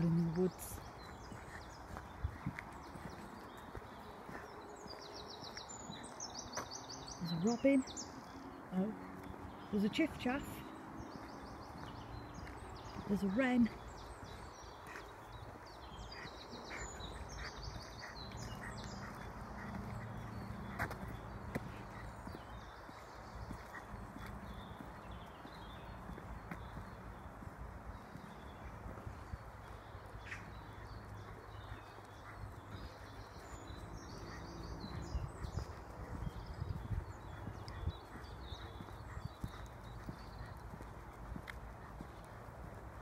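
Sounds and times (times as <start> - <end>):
birds singing: 0.0 - 43.0.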